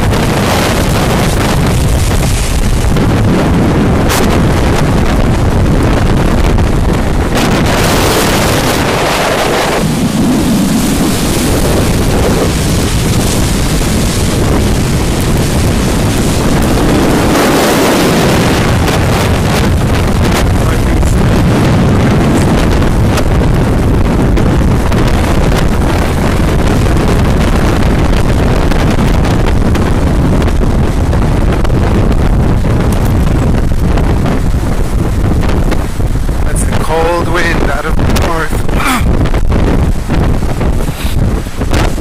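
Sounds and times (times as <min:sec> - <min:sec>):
strong wind buffeting microphone: 0:00.0 - 0:42.0.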